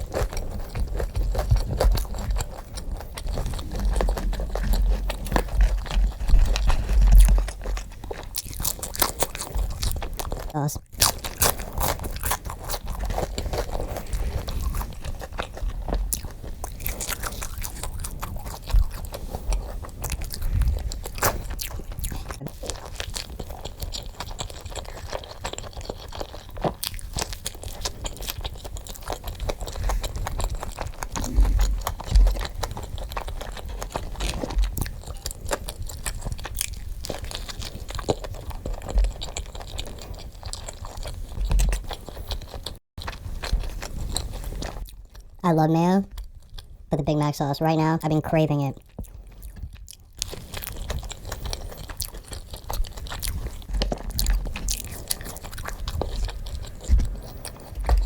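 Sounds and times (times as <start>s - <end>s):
crunching and chewing food: 0.0s - 58.0s.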